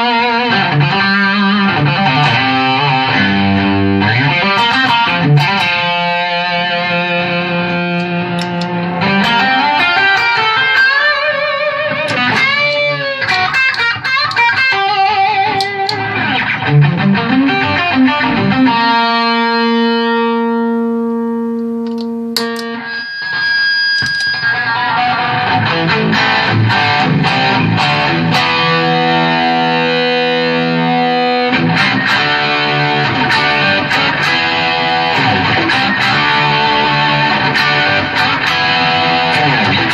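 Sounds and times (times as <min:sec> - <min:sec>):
overdriven electric guitar playing: 0:00.0 - 0:39.9.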